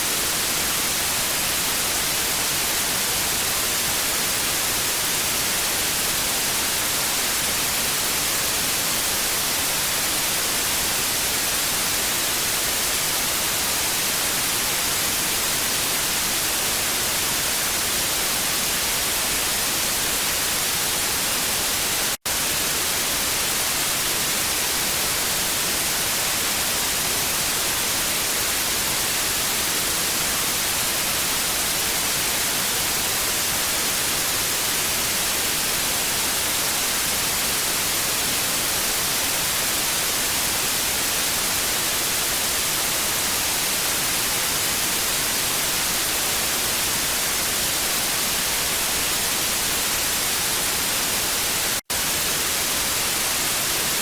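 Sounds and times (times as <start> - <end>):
television static hiss: 0.0 - 54.0.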